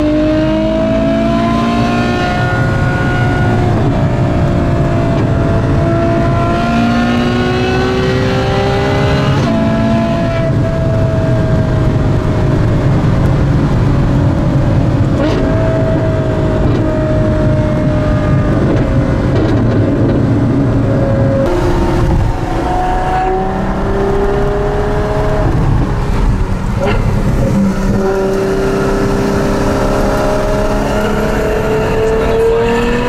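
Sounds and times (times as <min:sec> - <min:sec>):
car engine from inside cabin: 0:00.0 - 0:33.0
low road rumble: 0:00.0 - 0:33.0.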